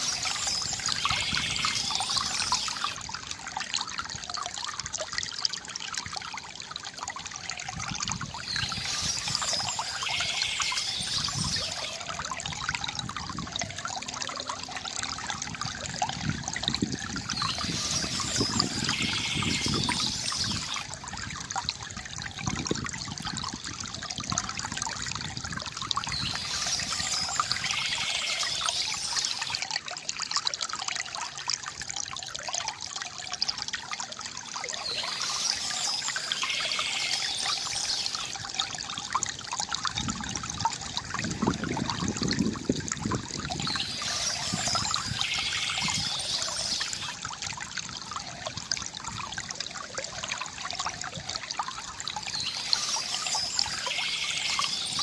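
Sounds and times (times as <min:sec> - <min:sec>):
water trickling from fountain: 0:00.0 - 0:55.0.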